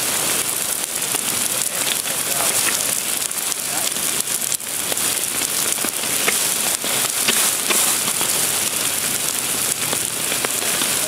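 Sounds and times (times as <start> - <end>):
fire hissing and crackling: 0.0 - 11.0.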